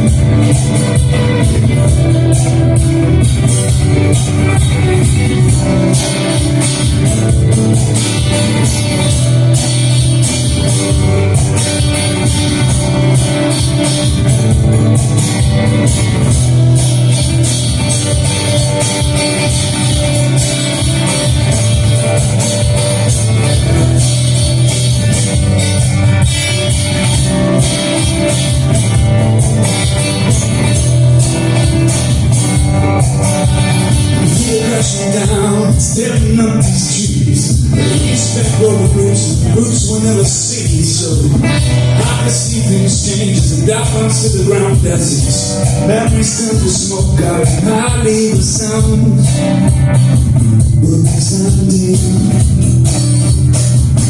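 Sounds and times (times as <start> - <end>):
bass: 0.0 - 54.0
drum kit beat: 0.0 - 54.0
guitar: 0.0 - 54.0.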